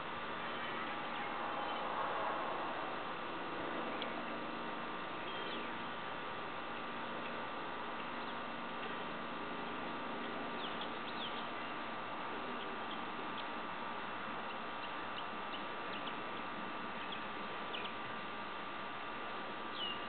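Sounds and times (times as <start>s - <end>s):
outdoor hum and hiss: 0.0s - 20.0s.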